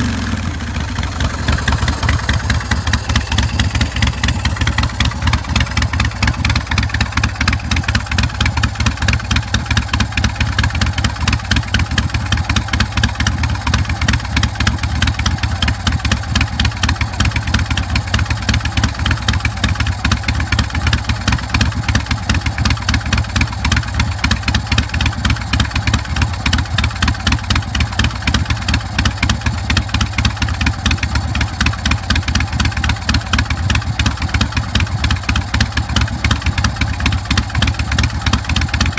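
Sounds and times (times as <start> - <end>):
motorcycle idling: 0.0 - 38.9.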